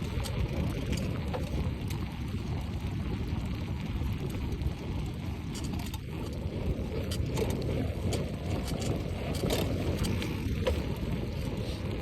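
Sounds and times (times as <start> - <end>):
bicycle clicks and rattles: 0.0 - 12.0
wind rumbling over microphone: 0.0 - 12.0.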